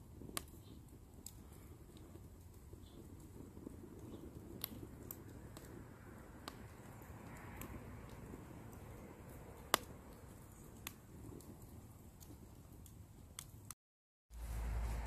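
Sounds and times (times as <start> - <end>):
campfire crackling: 0.0 - 13.8
sharp pops of fire: 0.0 - 13.8.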